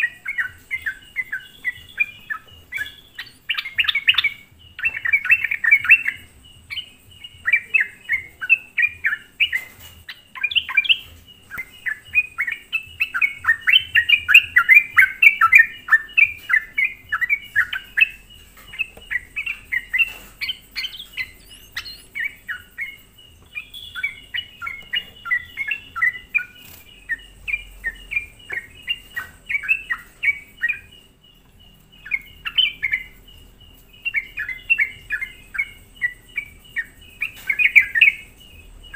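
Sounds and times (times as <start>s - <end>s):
bulbul chirping song: 0.0s - 38.9s.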